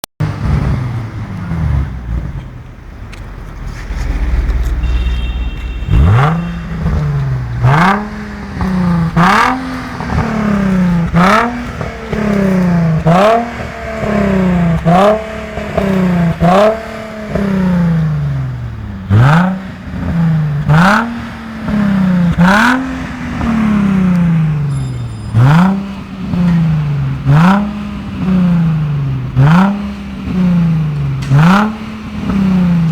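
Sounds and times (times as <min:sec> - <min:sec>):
car engine revving: 0:03.0 - 0:24.7, 0:25.3 - 0:32.9.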